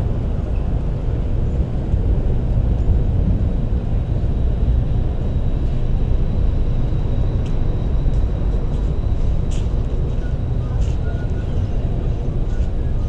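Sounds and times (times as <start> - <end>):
high steady whine: 0.0 - 13.0
train rumbling: 0.0 - 13.0.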